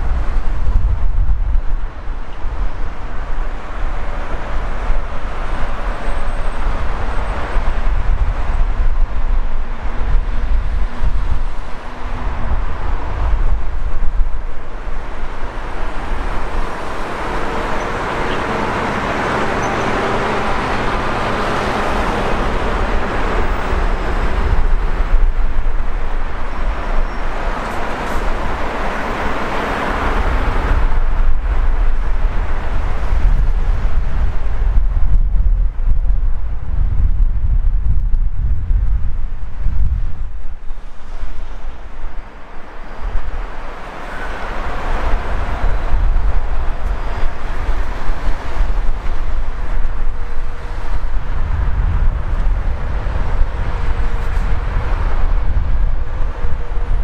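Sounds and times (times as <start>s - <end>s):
diesel construction machinery: 0.0s - 34.8s, 40.8s - 57.0s
traffic rumble: 0.0s - 57.0s
vehicles passing: 0.0s - 57.0s.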